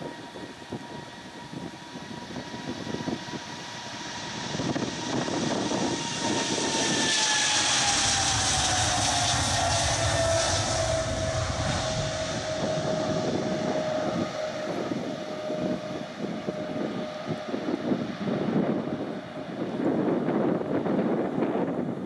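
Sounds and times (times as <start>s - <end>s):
high engine whine: 0.0s - 22.0s
jet engines roaring at takeoff: 0.0s - 22.0s.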